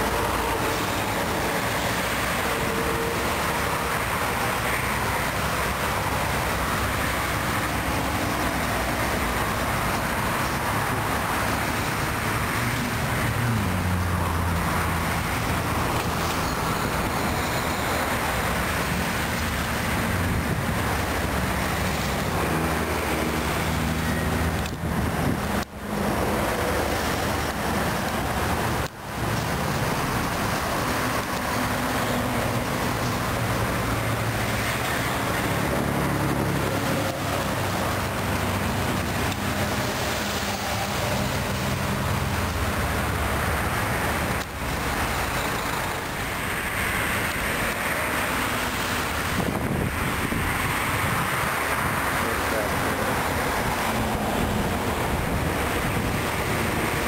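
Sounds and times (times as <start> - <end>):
busy highway traffic: 0.0 - 57.0
truck engine hum: 0.0 - 57.0.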